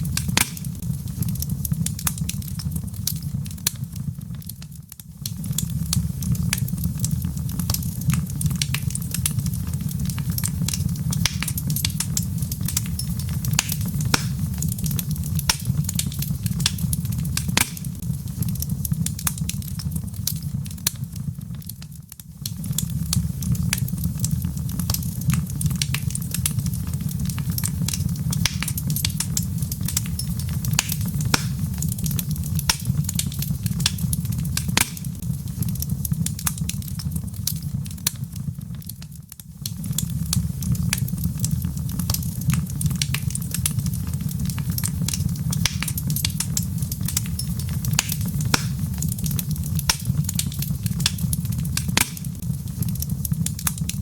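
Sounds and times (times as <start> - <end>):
fire low rumble: 0.0 - 54.0
logs crackling and popping: 0.0 - 54.0.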